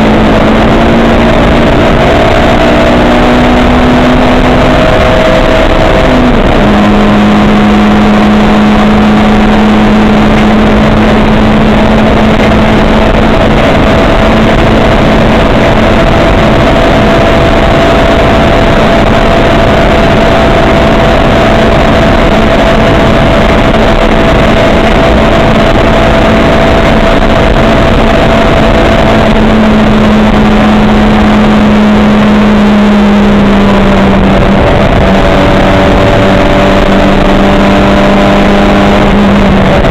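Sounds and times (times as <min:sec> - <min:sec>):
dense wash of noise: 0:00.0 - 0:39.9
race car engine at constant revs: 0:00.0 - 0:39.9.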